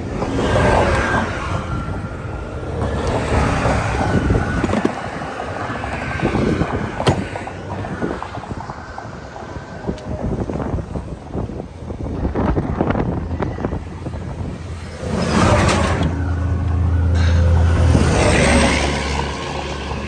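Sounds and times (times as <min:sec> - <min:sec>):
highway traffic passing: 0:00.0 - 0:20.0
wind buffeting microphone: 0:00.0 - 0:20.0.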